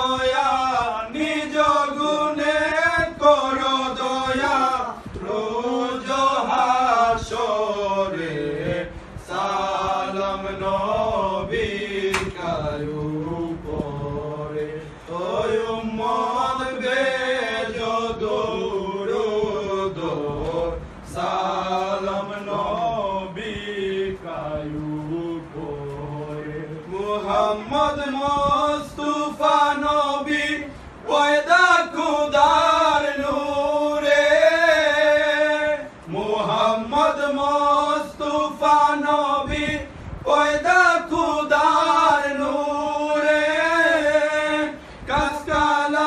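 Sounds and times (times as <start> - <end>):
men chanting devotional song: 0.0 - 46.0.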